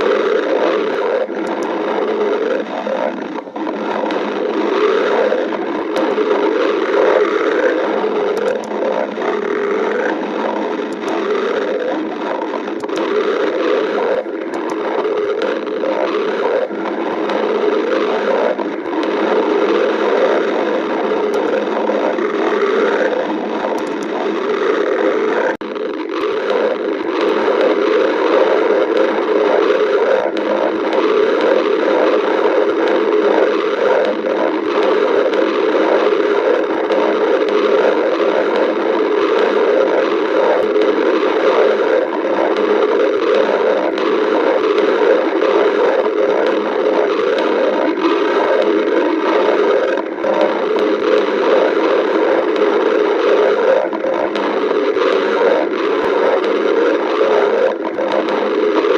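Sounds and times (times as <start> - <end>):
stomach growling: 0.0 - 58.9.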